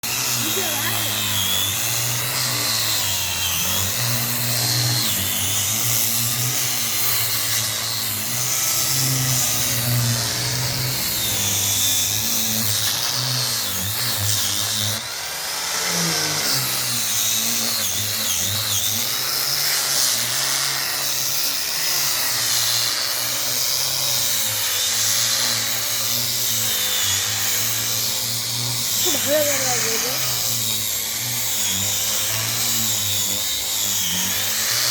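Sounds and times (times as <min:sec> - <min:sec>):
polishing machine motor hum: 0:00.0 - 0:34.9.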